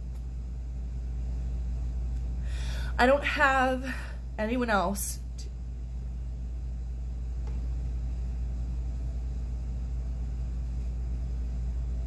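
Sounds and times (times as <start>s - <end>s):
ventilation hum: 0.0s - 12.0s.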